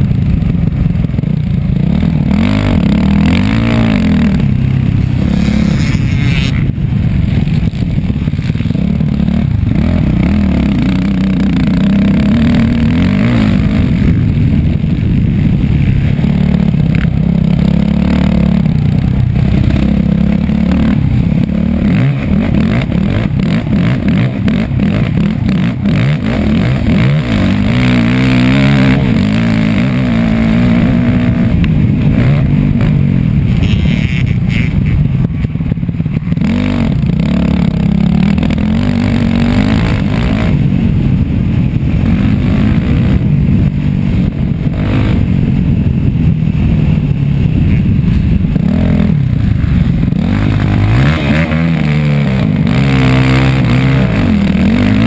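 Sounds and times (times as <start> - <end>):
motorcycle engine revving: 0.0 - 55.0
motorcycle rattling and knocking: 0.0 - 55.0.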